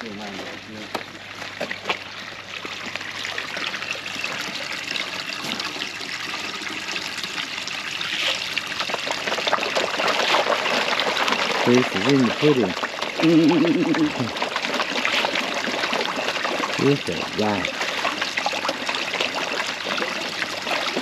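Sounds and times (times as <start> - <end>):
pond water trickling: 0.0 - 21.0.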